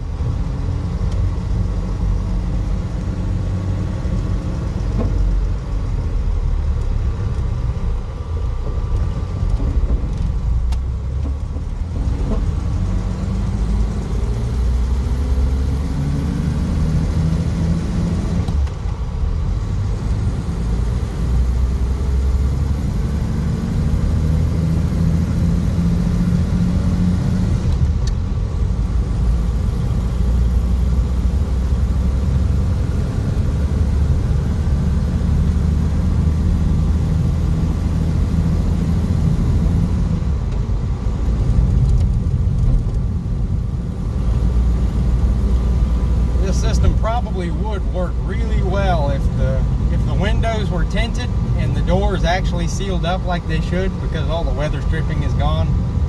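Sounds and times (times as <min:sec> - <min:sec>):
car engine from inside cabin: 0:00.0 - 0:56.0
road noise: 0:00.0 - 0:56.0.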